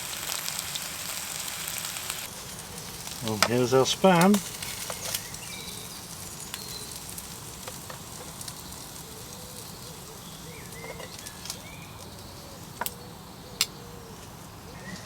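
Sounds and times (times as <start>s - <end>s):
meat slices sizzling in oil: 0.0s - 12.8s
faint crackles: 0.0s - 15.0s.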